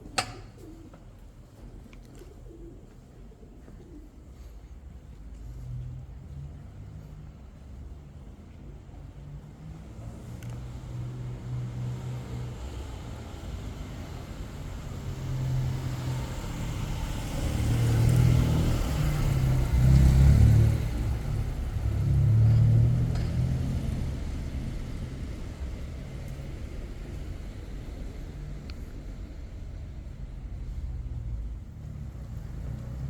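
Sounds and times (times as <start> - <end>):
vehicles driving past: 4.4 - 33.0.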